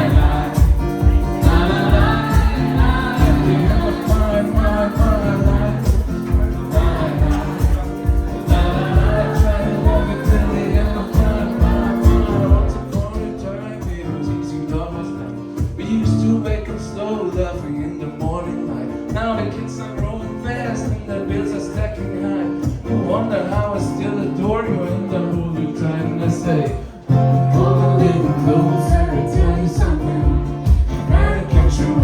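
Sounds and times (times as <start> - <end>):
live band with singing: 0.0 - 32.0.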